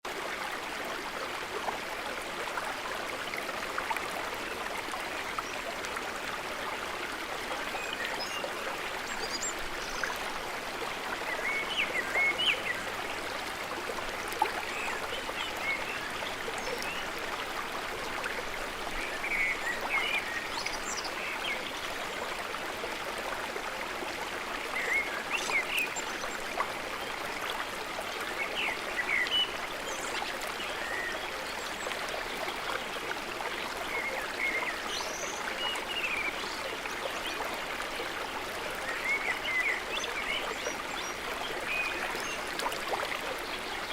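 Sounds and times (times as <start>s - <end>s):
stream flowing over rocks: 0.1s - 43.9s.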